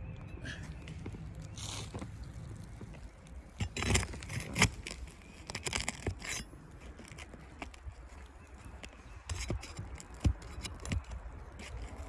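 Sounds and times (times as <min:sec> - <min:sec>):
tool scraping roof shingles: 0:00.6 - 0:12.0.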